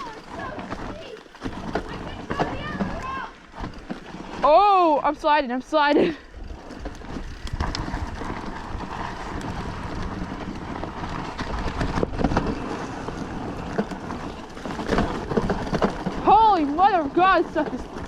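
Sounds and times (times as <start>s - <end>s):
bike rattling: 0.0s - 18.0s
bike tyres skidding on trail: 0.0s - 18.0s
wind buffeting microphone: 0.0s - 18.0s.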